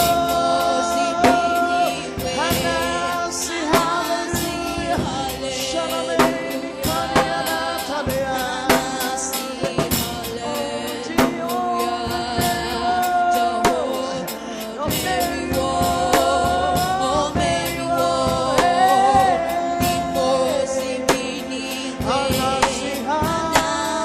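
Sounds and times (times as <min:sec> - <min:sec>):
band playing: 0:00.0 - 0:24.0
voices singing gospel: 0:00.0 - 0:24.0.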